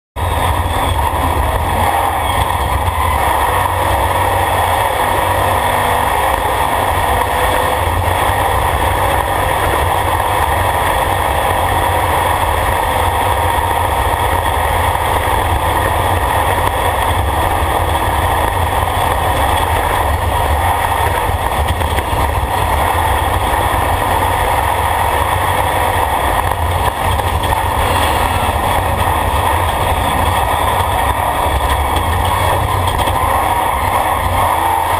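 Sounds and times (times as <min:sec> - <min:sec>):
race vehicle engine running: 0:00.2 - 0:34.9.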